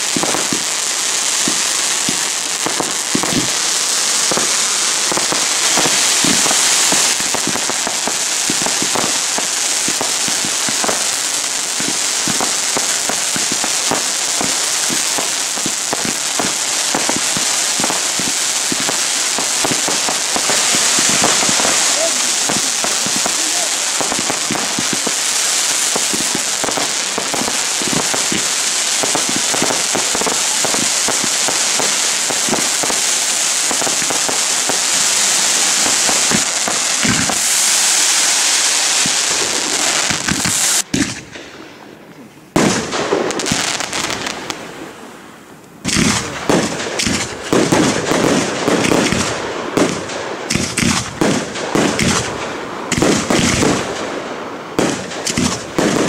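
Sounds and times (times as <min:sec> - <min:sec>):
rapid firework bangs: 0:00.0 - 0:41.6, 0:42.5 - 0:45.0, 0:45.8 - 0:56.0
fireworks hissing and crackling: 0:00.0 - 0:56.0.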